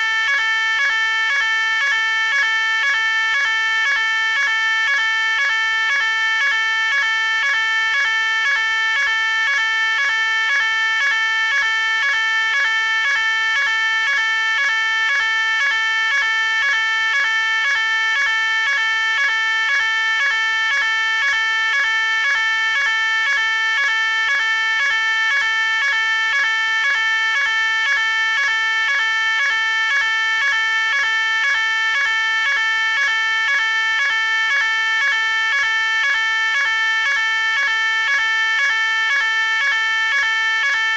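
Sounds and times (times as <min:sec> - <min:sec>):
fire alarm beeping: 0:00.0 - 0:40.9.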